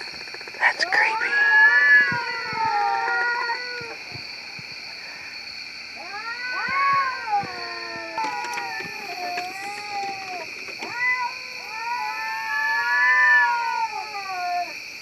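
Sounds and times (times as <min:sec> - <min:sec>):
cats caterwauling: 0:00.0 - 0:15.0.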